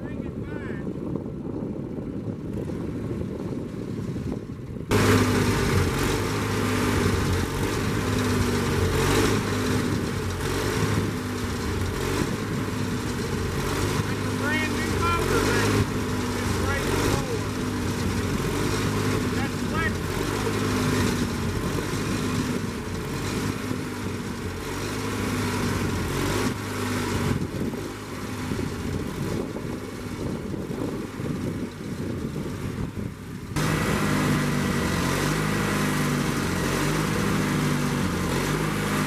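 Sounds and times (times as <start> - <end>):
sawmill engine running: 1.8 - 39.0.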